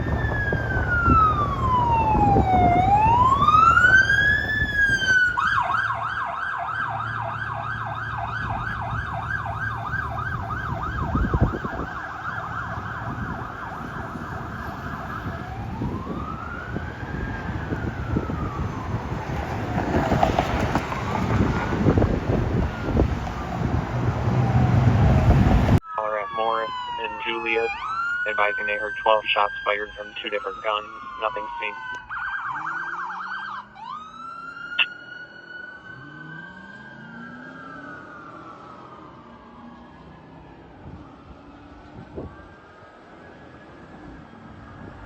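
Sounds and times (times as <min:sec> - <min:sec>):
fire engine siren: 0:00.0 - 0:45.0.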